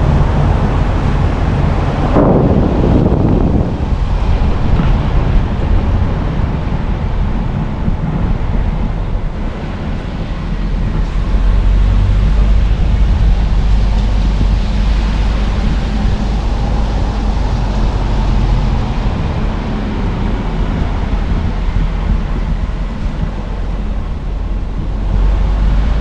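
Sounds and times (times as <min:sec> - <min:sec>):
car driving: 0:00.0 - 0:26.0.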